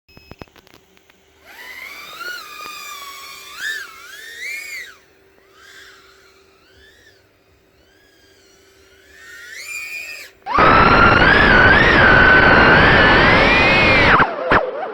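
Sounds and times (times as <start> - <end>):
quadcopter motors whining: 0.1 - 14.9.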